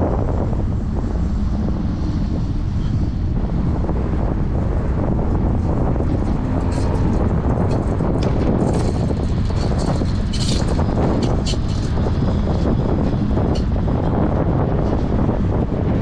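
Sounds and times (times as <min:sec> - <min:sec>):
road noise: 0:00.0 - 0:16.0
wind rushing over microphone: 0:00.0 - 0:16.0.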